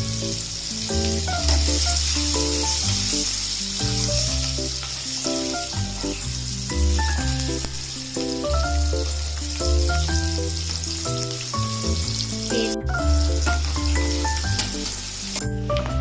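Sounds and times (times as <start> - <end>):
background music with bass: 0.0 - 16.0
onions sizzling in oil: 0.0 - 16.0.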